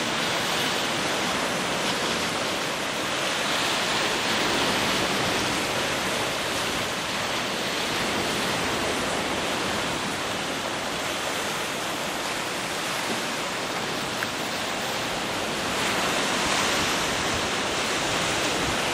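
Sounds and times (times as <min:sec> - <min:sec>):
sea surf breaking: 0:00.0 - 0:18.9
strong wind: 0:00.0 - 0:18.9.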